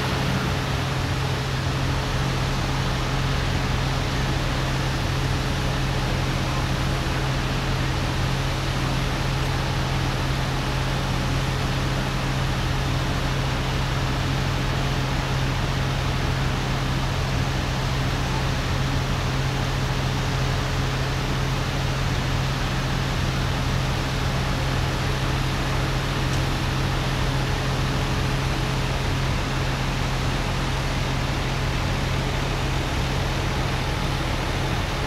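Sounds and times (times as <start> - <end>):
low machinery hum: 0.0 - 35.0.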